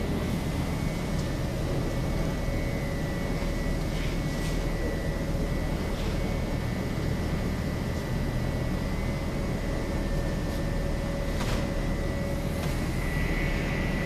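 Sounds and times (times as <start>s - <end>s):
conveyor machine rumble: 0.0s - 14.0s
high whine: 0.0s - 14.0s
low hum: 0.0s - 14.0s.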